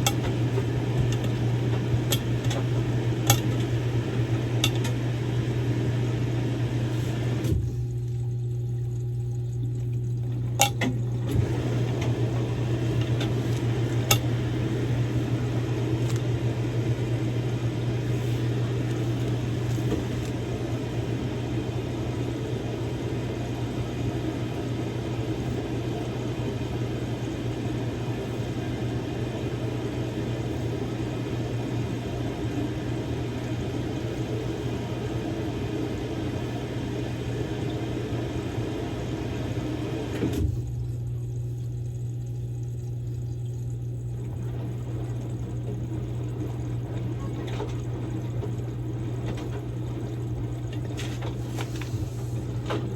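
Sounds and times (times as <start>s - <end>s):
laundry churning in water: 0.0s - 52.9s
washing machine motor hum: 0.0s - 52.9s.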